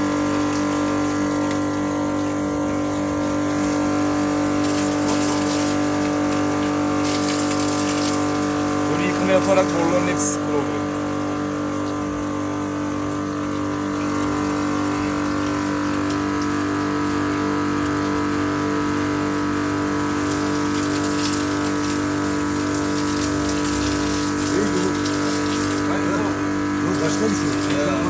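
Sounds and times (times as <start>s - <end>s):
drain-cleaning machine motor hum: 0.0s - 28.0s
water rushing through drain pipe: 0.0s - 28.0s.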